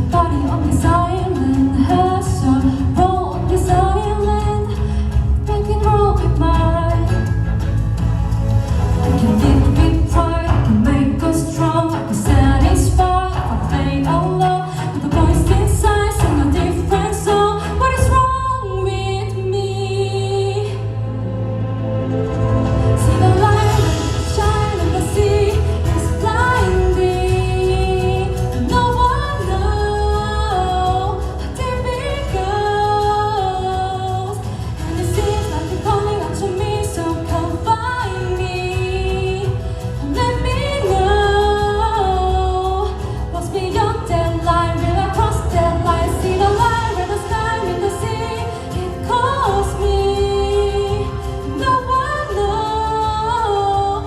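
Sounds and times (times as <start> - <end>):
person singing live: 0.0 - 7.7, 9.1 - 21.1, 22.8 - 54.0
backing music: 0.0 - 54.0.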